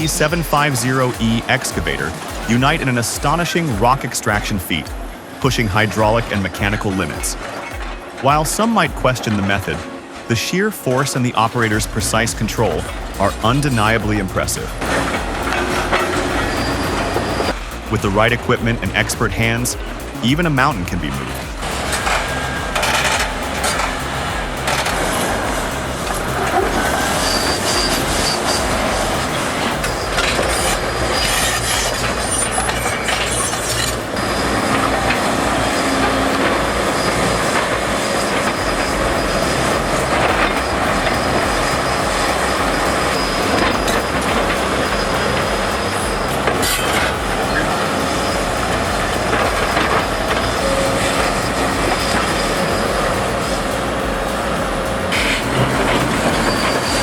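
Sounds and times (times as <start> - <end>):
heavy machinery engine noise: 0.0 - 57.0
steel tracks squealing and clattering: 0.0 - 57.0.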